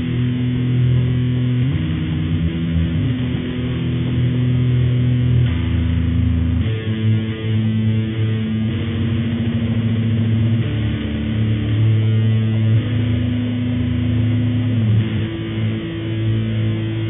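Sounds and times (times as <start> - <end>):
distorted low droning notes: 0.0 - 17.0.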